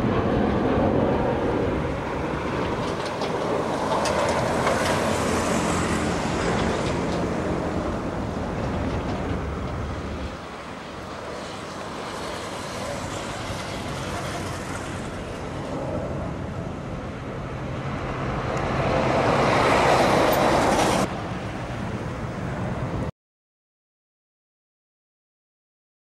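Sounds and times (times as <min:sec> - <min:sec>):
jet engine rumble: 0:00.0 - 0:23.1.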